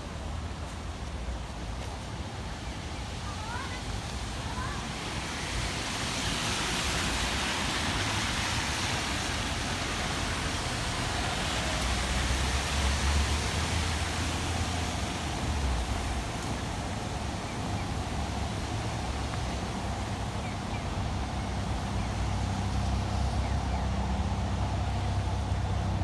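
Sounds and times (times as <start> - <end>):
rain hissing: 2.2 - 26.0
passing vehicle rumble: 3.8 - 26.0.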